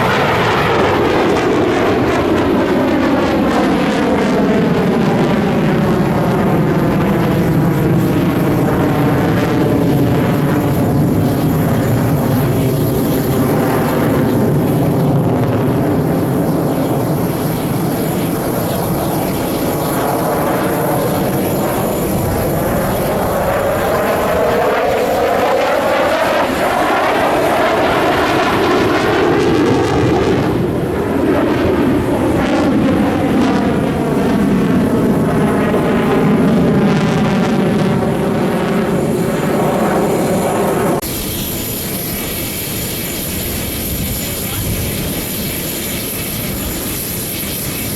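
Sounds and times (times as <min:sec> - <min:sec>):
fighter jet engines roaring: 0:00.0 - 0:47.9.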